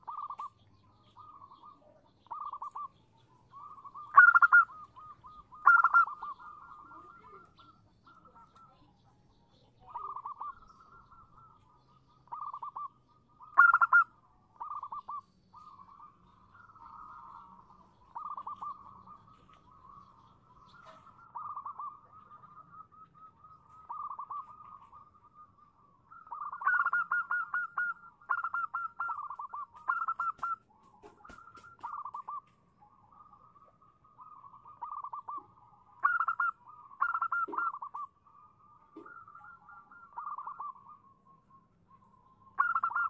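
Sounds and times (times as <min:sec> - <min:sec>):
dove trilled cooing calls: 0:00.0 - 0:43.0.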